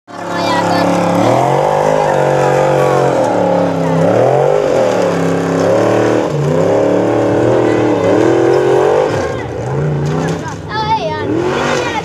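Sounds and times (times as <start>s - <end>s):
buggy engine revving hard: 0.1s - 12.0s.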